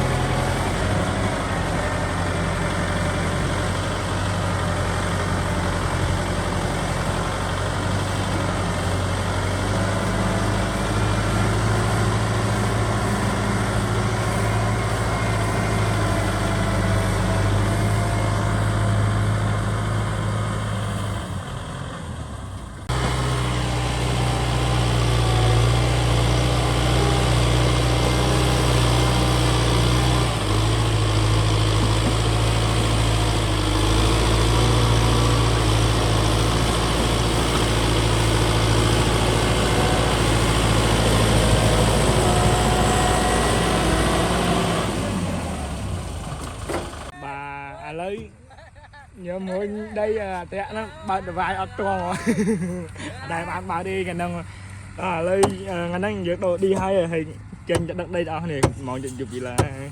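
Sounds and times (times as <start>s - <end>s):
diesel engine running: 0.0s - 48.6s, 49.8s - 59.9s.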